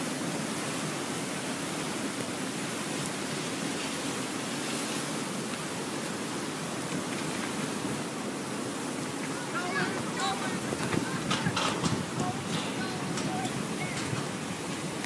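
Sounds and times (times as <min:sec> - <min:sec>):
muddy water rushing down channel: 0:00.0 - 0:15.0.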